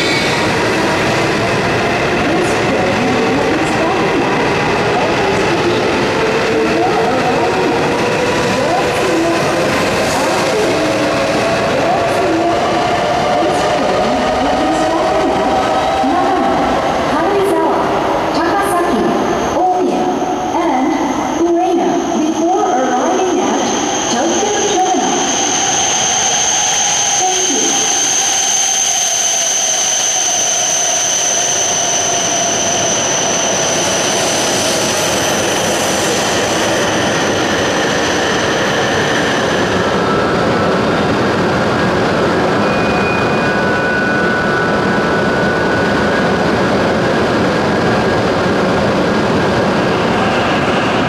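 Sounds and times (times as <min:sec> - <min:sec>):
train rushing rumble: 0:00.0 - 0:51.0.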